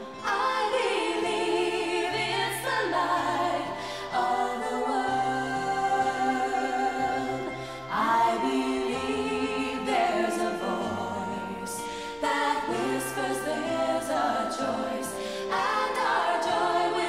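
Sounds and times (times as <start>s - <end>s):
choir singing sacred song: 0.0s - 17.0s.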